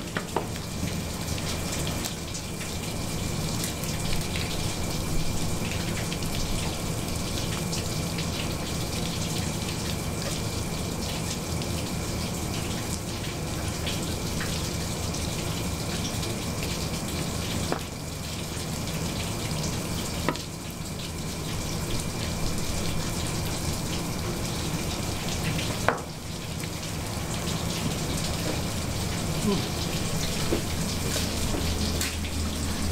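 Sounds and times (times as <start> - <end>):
running tap water: 0.0 - 32.9.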